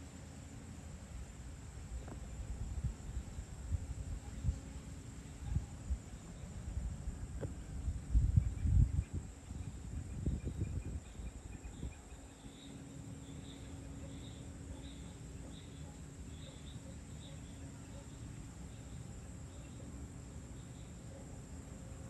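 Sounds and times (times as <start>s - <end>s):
faint hum: 0.0s - 22.0s
insects chirping: 0.0s - 22.0s
low steady rumble: 0.0s - 22.0s.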